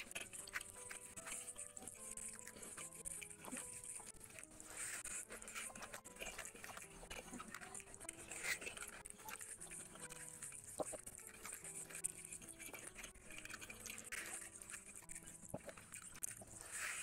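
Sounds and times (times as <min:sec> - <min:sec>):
fingers squishing rice: 0:00.0 - 0:17.0
wet chewing and smacking: 0:00.0 - 0:17.0.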